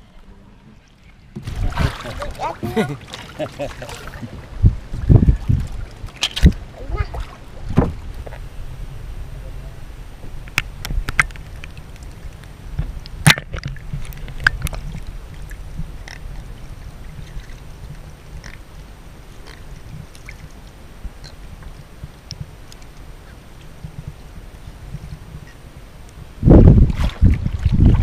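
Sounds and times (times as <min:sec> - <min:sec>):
water sloshing and gurgling: 0:00.0 - 0:25.6, 0:26.2 - 0:28.0.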